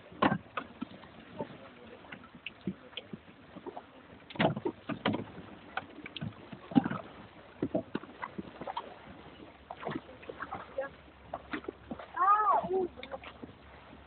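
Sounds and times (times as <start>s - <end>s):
oars knocking: 0.0s - 14.0s
oars splashing water: 0.0s - 14.0s.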